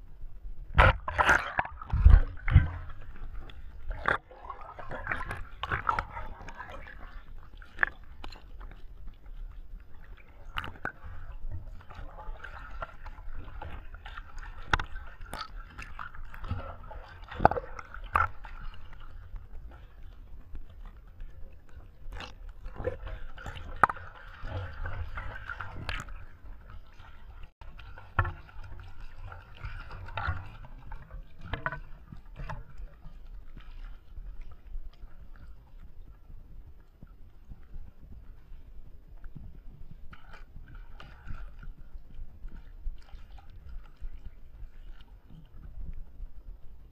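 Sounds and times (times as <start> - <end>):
water splashing and sloshing: 0.0 - 46.9.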